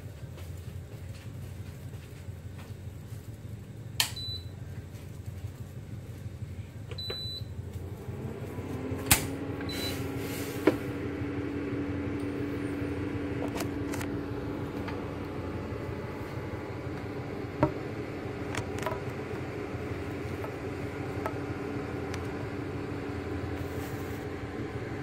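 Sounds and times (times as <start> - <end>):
kitchen hum: 0.0 - 25.0.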